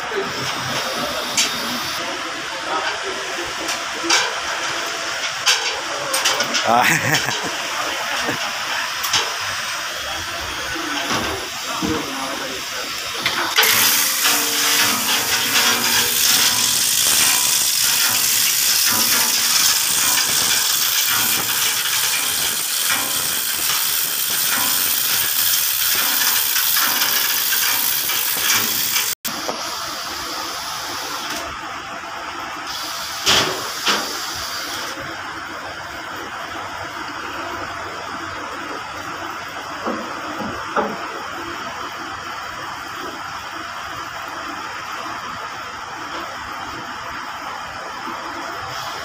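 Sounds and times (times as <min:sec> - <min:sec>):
loud steady hissing: 0:00.0 - 0:39.3.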